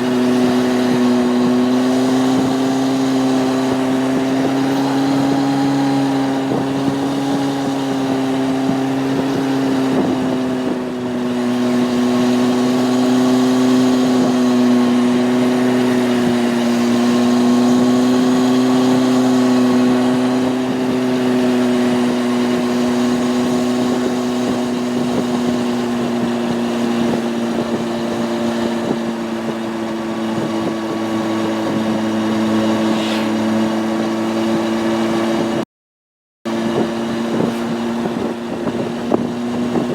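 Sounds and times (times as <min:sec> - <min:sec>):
motorcycle engine cruising: 0:00.0 - 0:35.6, 0:36.5 - 0:39.9.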